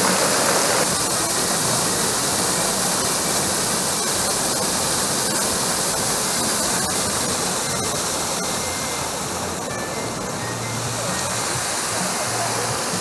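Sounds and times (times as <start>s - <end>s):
running water hiss: 0.0s - 13.0s.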